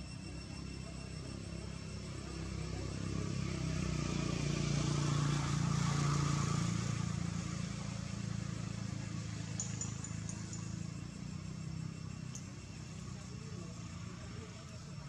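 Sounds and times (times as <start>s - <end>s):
passing motor vehicle engine drone: 0.0s - 15.0s.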